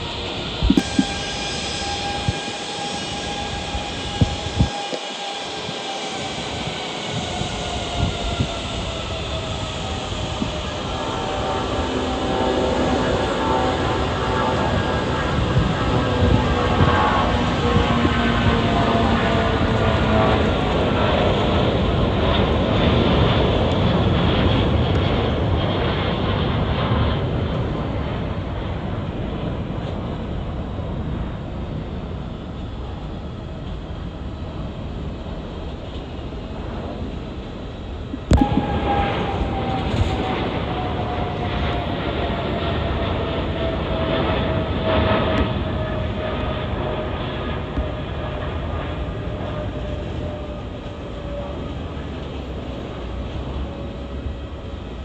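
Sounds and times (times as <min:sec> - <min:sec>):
falling engine whine: 0:00.0 - 0:55.0
jet engines roaring: 0:00.0 - 0:55.0.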